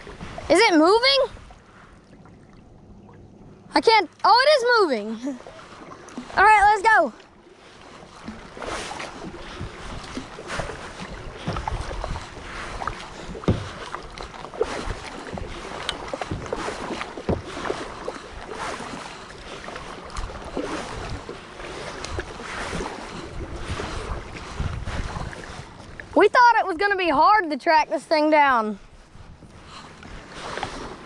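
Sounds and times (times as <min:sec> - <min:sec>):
paddle splashing through water: 0:00.0 - 0:31.0.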